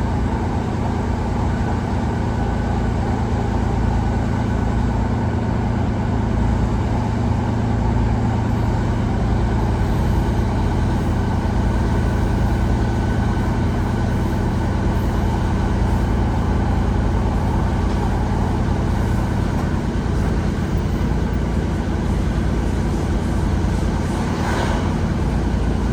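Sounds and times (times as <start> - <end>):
diesel train engine droning: 0.0 - 25.9
rail running noise: 0.0 - 25.9.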